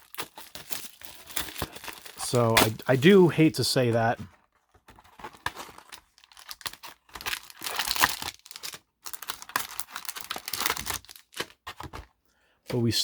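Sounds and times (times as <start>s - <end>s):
plastic packaging rustling and tearing: 0.0s - 12.1s.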